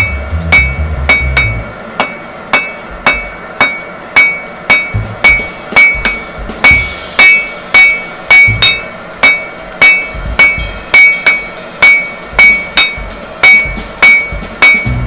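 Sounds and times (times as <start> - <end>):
hammer striking steel on anvil: 0.0 - 15.0.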